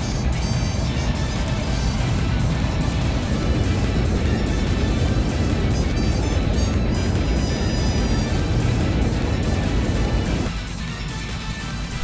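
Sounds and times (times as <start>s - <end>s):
background music: 0.0s - 12.0s
train rumbling at speed: 0.0s - 12.0s.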